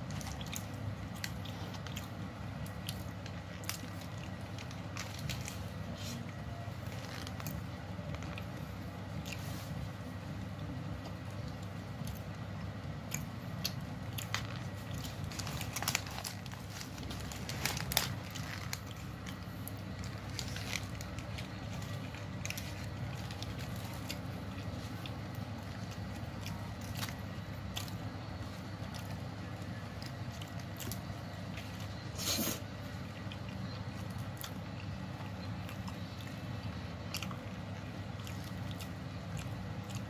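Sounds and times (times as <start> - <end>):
chewing crackles and clicks: 0.0 - 40.0
steady low hum: 0.0 - 40.0.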